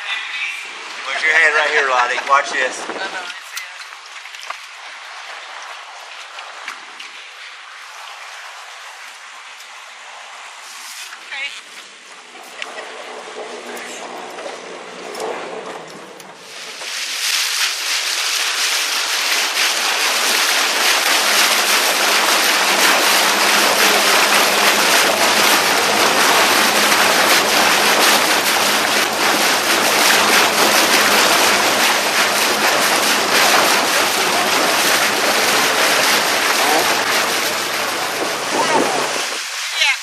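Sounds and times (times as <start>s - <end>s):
rush of wind and water: 0.0s - 40.0s.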